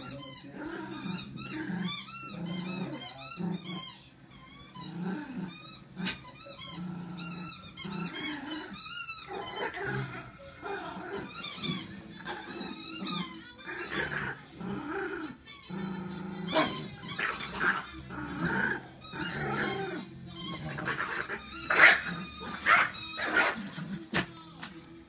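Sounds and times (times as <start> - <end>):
dogs growling: 0.0 - 24.4
dogs yelping and barking: 0.8 - 23.8
background music: 4.9 - 25.0.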